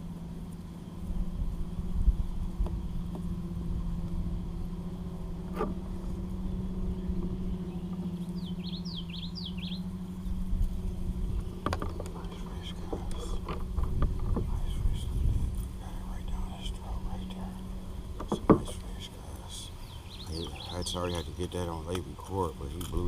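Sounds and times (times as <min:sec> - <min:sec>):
boat motor humming: 0:00.0 - 0:23.0
rough low rumble: 0:00.0 - 0:23.0
bird chirping: 0:03.8 - 0:23.0.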